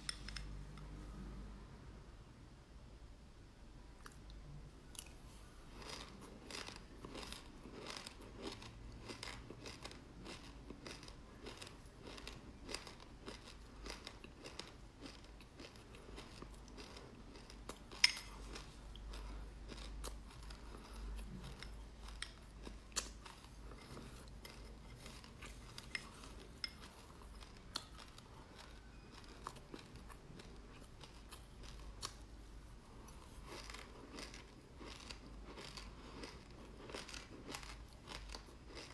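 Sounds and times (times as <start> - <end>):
chewing crunchy seeds: 4.9 - 32.3, 32.9 - 38.9.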